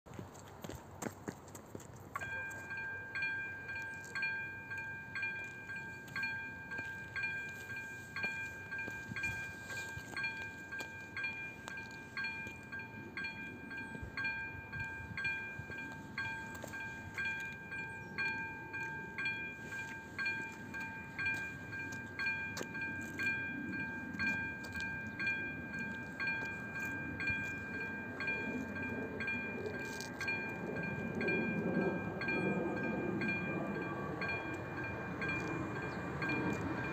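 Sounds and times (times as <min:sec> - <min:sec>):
low train rumble: 0:00.2 - 0:36.9
level crossing warning bell: 0:02.1 - 0:36.9.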